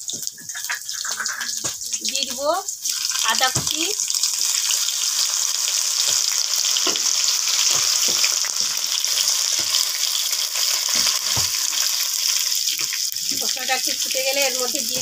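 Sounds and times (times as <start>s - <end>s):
ginger paste sizzling in oil: 0.0s - 15.0s.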